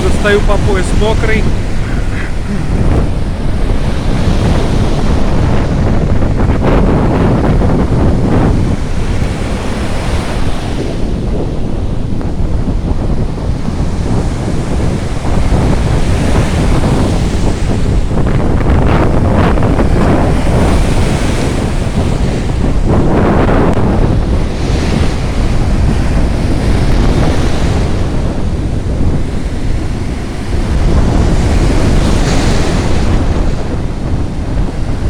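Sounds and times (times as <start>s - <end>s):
sea surf breaking: 0.0s - 35.0s
wind buffeting microphone: 0.0s - 35.0s.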